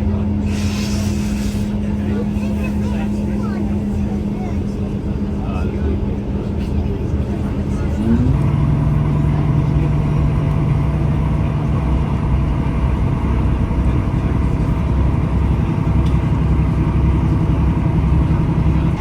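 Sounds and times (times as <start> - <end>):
diesel train engine drone: 0.0 - 19.0
train running rumble: 0.0 - 19.0.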